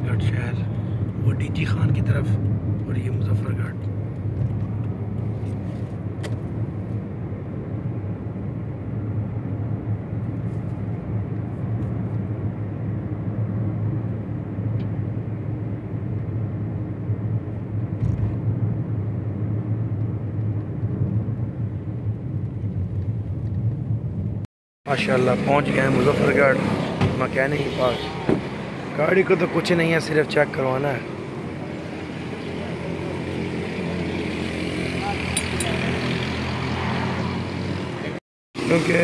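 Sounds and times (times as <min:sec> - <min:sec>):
car cabin engine and tyre drone: 0:00.0 - 0:39.0.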